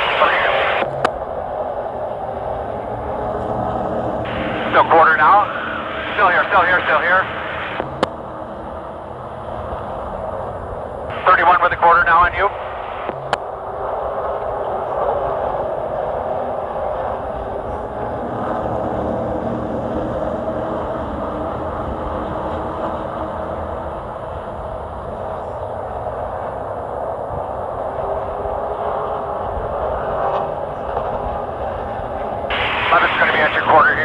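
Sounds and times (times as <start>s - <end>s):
racing truck engine drone: 0.0s - 34.0s.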